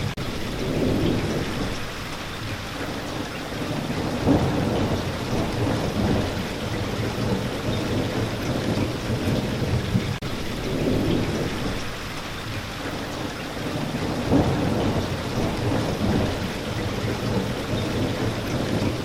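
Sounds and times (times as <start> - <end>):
low rumble of thunder: 0.0 - 19.0
steady rain: 0.0 - 19.0.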